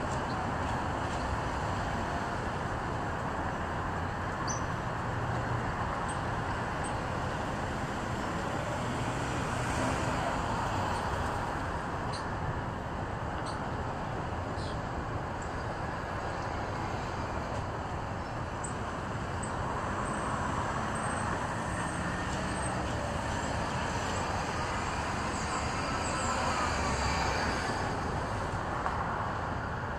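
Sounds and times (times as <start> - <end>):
street traffic noise: 0.0 - 29.9.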